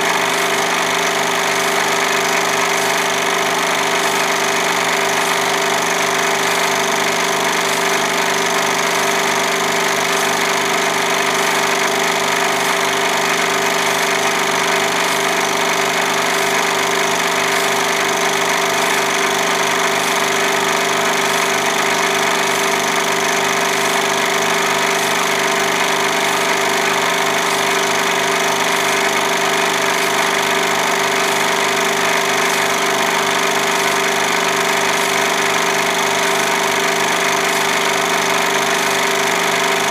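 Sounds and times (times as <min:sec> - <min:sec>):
projector motor whirring: 0:00.0 - 0:39.9.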